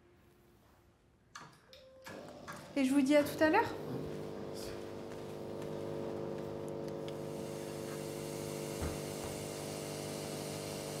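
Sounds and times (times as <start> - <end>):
machine electric hum: 2.1 - 11.0.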